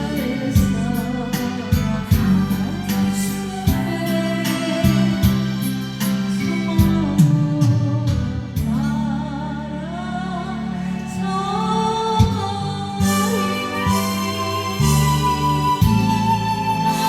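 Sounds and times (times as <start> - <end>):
keyboard chords: 0.0 - 17.0
person singing: 0.0 - 17.0.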